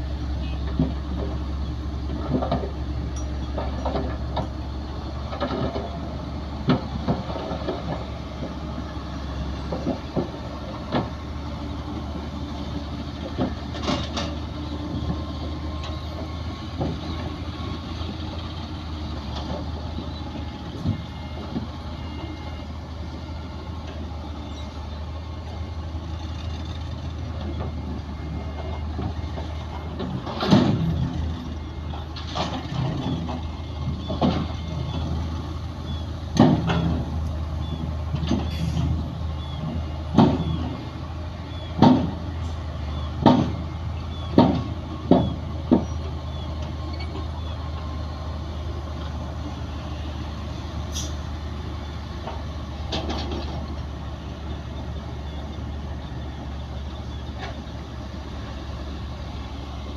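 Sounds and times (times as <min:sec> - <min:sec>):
diesel machinery engine hum: 0:00.0 - 0:59.9
machinery clanks and knocks: 0:00.4 - 0:22.6, 0:23.8 - 0:48.0, 0:51.0 - 0:59.9.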